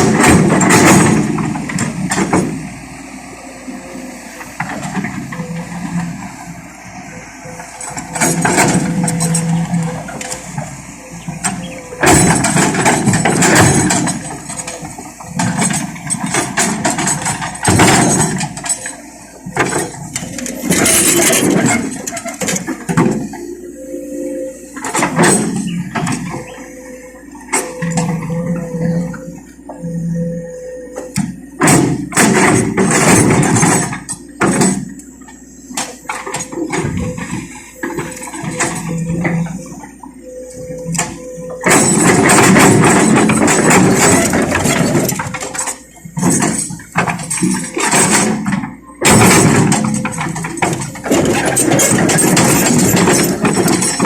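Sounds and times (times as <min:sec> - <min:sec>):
loud scraping and clattering: 0:00.0 - 0:02.7, 0:04.4 - 0:23.5, 0:24.4 - 0:35.0, 0:40.9 - 0:54.0
excavator knocks: 0:00.0 - 0:03.0, 0:04.4 - 0:23.6, 0:24.2 - 0:54.0
excavator engine running: 0:00.0 - 0:54.0.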